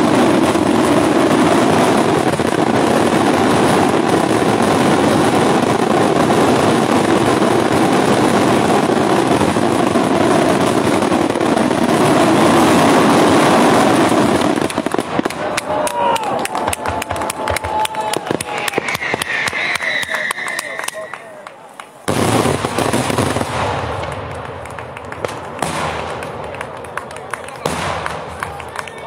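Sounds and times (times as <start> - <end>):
fireworks barrage roaring: 0.0 - 29.0.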